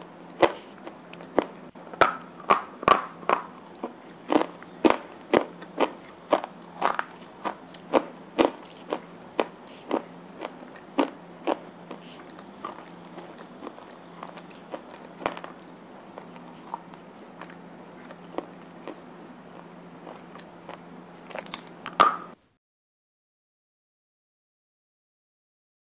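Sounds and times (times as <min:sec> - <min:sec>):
crunching chewing: 0:00.0 - 0:22.3.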